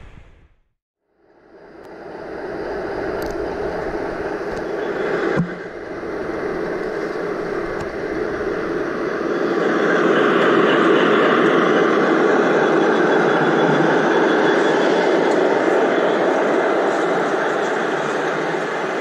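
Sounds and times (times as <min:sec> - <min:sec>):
model train rumbling on track: 0:01.5 - 0:19.0.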